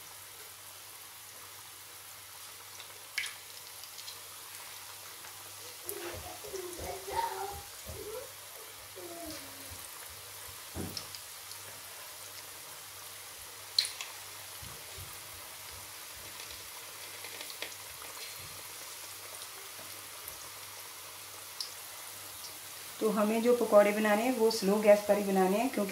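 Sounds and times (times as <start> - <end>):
food deep-frying in oil: 0.0 - 25.9.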